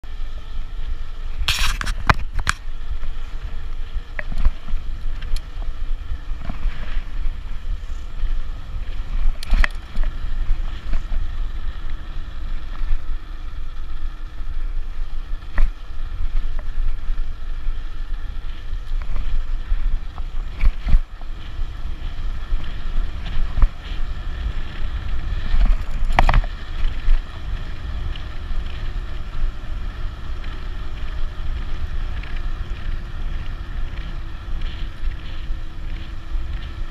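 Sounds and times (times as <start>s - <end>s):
bike knocking and rattling: 0.0s - 36.9s
tyre noise on pavement: 0.0s - 36.9s
wind buffeting microphone: 0.3s - 36.9s.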